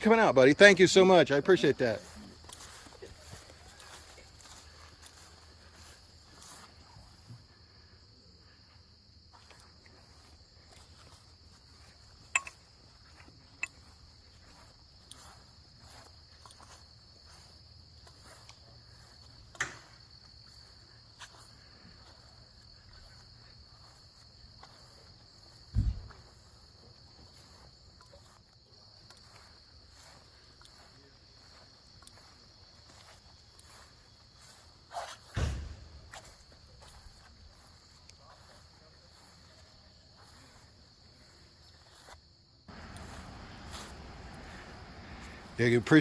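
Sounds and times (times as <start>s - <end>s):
footsteps walking: 0.0s - 7.8s, 8.6s - 46.0s
crickets chirping: 0.0s - 46.0s.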